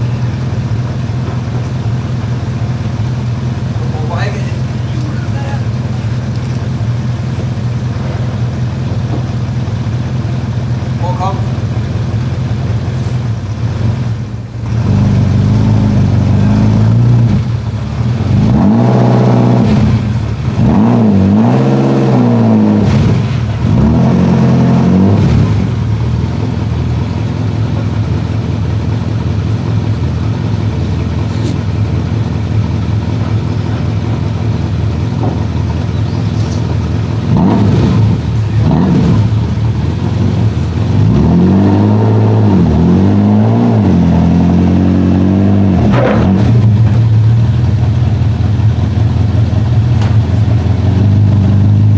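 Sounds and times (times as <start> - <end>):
car engine idling: 0.0 - 51.9
engine throttle blips: 0.0 - 51.9.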